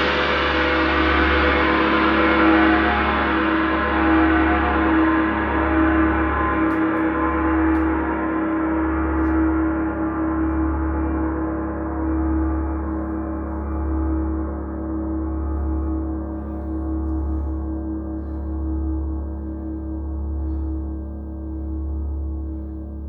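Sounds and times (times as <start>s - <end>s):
deep pulsing hum: 0.0s - 23.0s
sustained ringing tone: 0.2s - 20.7s.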